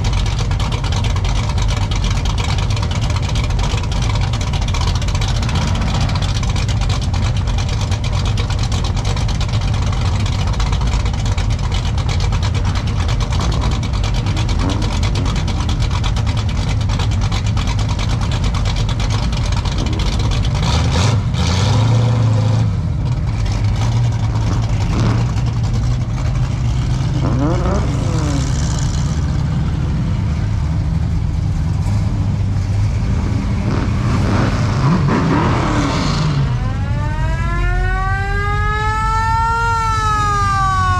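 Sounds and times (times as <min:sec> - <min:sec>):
car engines rumbling: 0:00.0 - 0:40.9.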